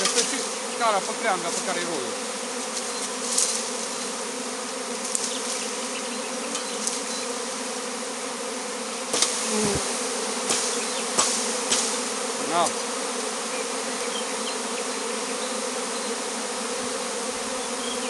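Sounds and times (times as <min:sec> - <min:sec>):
bee swarm buzzing: 0:00.0 - 0:18.0.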